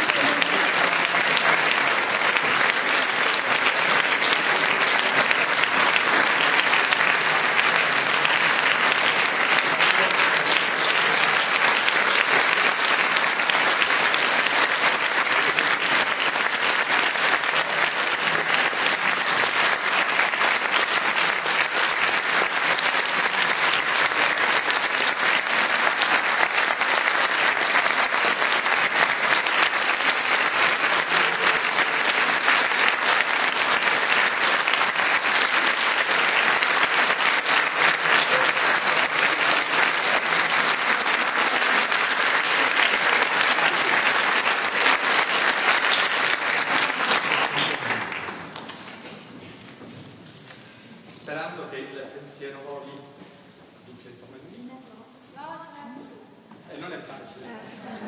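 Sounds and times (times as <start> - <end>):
audience applauding: 0.0 - 49.3.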